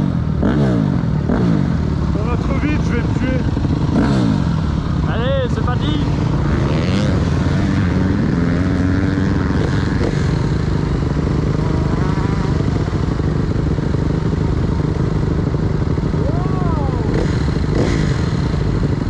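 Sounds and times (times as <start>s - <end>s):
dirt bike engine accelerating: 0.0s - 19.0s
low engine drone: 0.0s - 19.0s.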